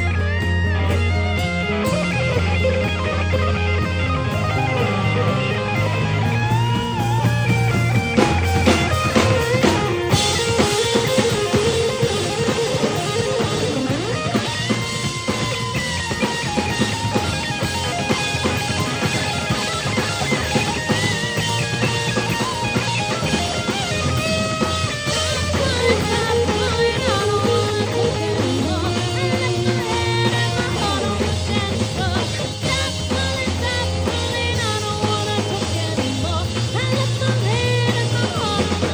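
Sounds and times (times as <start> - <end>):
bass line: 0.0 - 38.9
drums: 0.0 - 38.9
electric guitar bending notes: 0.0 - 38.9.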